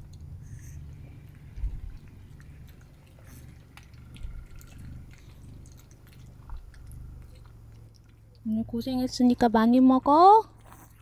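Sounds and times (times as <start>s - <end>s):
dogs chewing: 0.0s - 11.0s
steady low hum: 0.0s - 11.0s.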